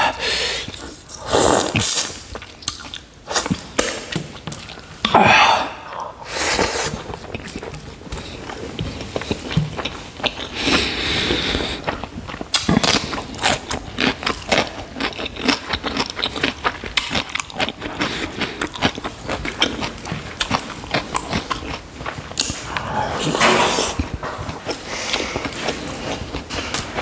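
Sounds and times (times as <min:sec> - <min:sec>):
wet chewing and mouth clicks: 0:00.6 - 0:05.2, 0:05.8 - 0:27.0.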